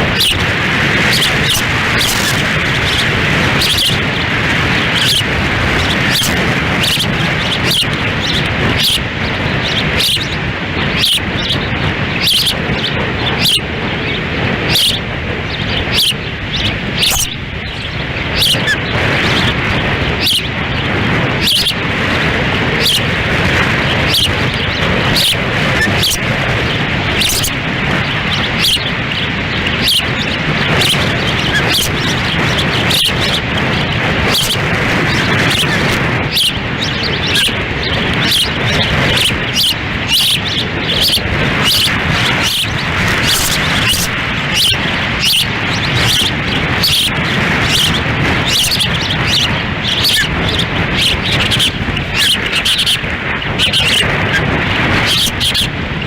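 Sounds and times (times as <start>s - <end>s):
ospreys chirping: 0.0s - 56.0s
wind buffeting microphone: 0.0s - 56.0s.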